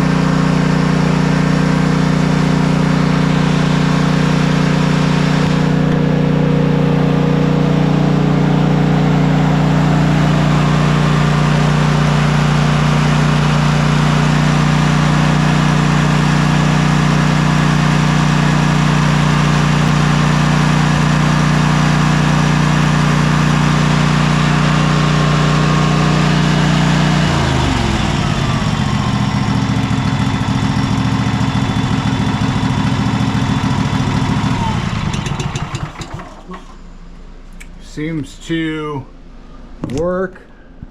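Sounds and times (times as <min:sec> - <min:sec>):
riding mower engine running: 0:00.0 - 0:38.3.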